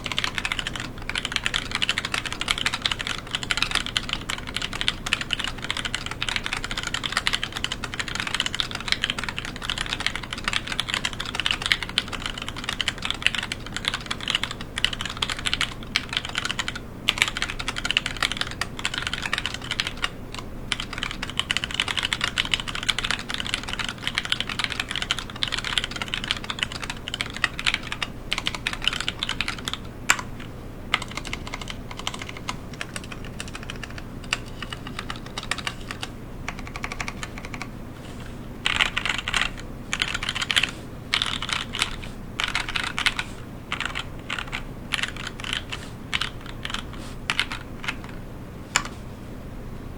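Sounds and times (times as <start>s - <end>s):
fast mechanical keyboard typing: 0.0s - 37.7s, 38.6s - 48.2s.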